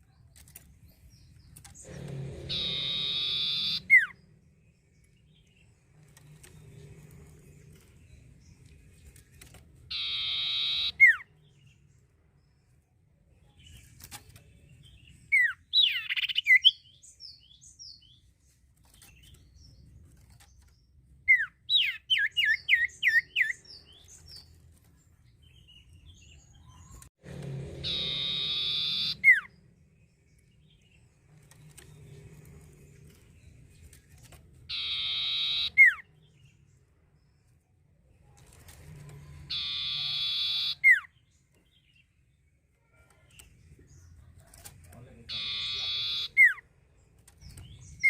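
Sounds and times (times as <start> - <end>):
bird singing: 0.0 - 27.1, 27.8 - 48.0.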